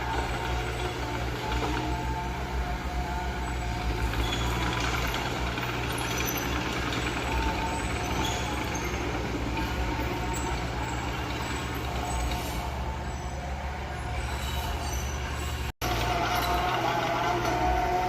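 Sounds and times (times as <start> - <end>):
diesel engine rumbling: 0.0 - 18.0.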